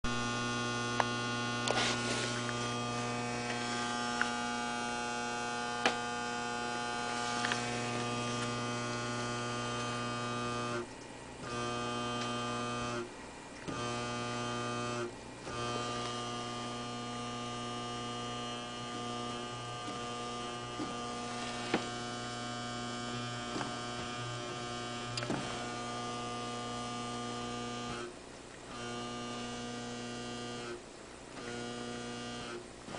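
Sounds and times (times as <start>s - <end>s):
computer case buzzing: 0.1s - 32.9s.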